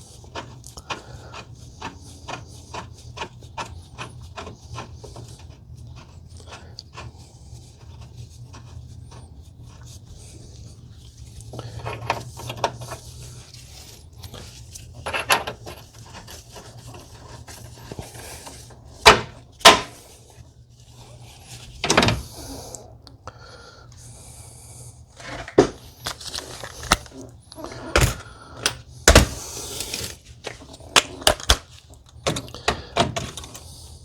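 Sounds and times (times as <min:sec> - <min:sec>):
scraping and rubbing: 0:00.2 - 0:22.7, 0:25.1 - 0:28.3, 0:29.2 - 0:31.9.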